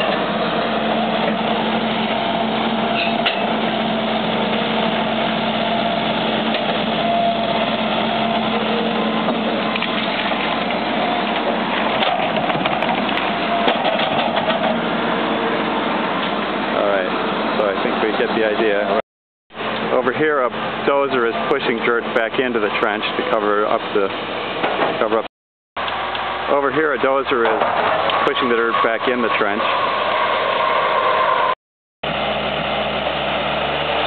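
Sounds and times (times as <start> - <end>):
excavator diesel engine under load: 0.0 - 19.0, 19.6 - 34.0.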